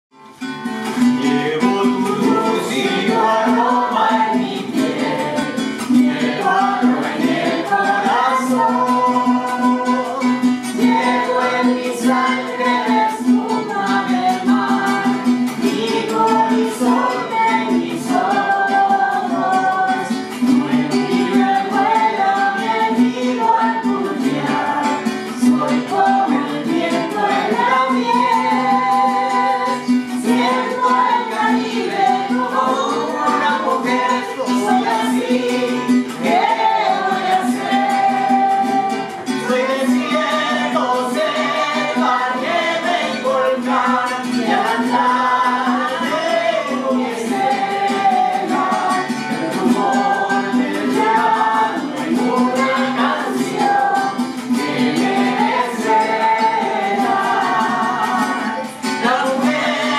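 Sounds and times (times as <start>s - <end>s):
acoustic guitar strumming: 0.1s - 59.9s
people singing: 0.4s - 59.9s.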